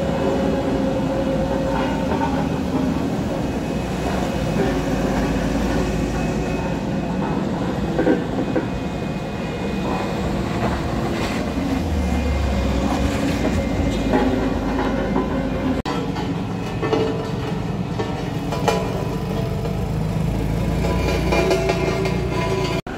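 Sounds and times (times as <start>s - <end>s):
diesel truck engine rumbling: 0.0s - 22.9s.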